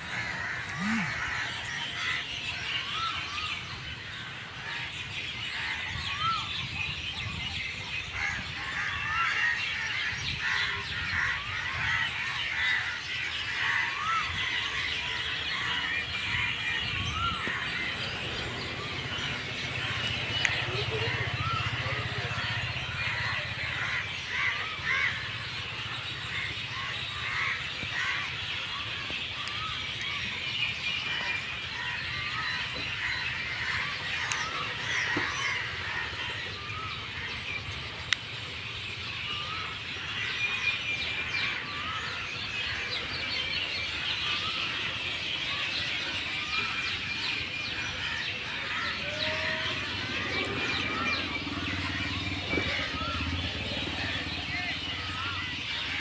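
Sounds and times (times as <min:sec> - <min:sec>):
flock of birds chirping: 0:00.0 - 0:56.0.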